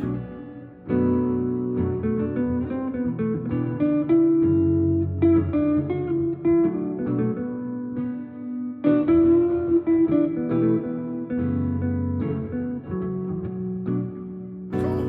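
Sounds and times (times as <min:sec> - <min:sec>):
guitar playing plucked chords: 0:00.0 - 0:15.0.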